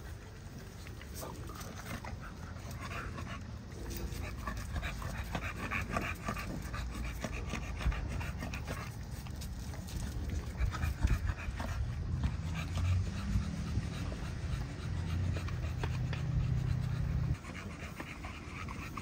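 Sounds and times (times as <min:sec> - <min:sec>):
dog breathing: 0:01.1 - 0:19.0.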